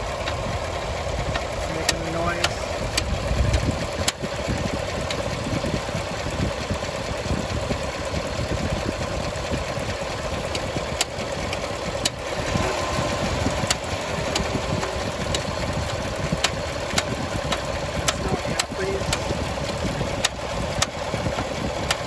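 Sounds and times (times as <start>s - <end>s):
sharp engine ticks: 0.0s - 22.0s
truck engine idling: 0.0s - 22.0s.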